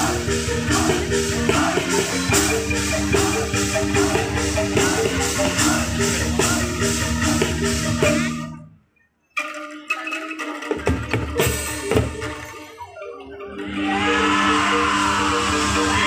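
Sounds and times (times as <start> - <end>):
drums and percussion: 0.0 - 8.6, 9.4 - 16.0
pitched bamboo instruments: 0.0 - 16.0.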